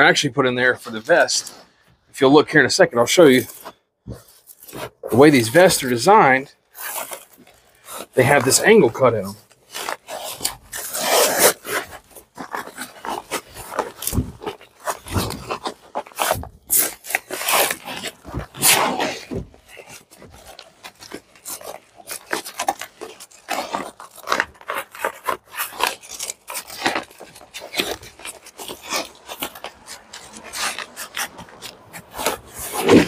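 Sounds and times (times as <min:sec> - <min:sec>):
fabric rubbing and scraping: 0:03.1 - 0:33.0
hook-and-loop straps pulled: 0:03.2 - 0:33.0.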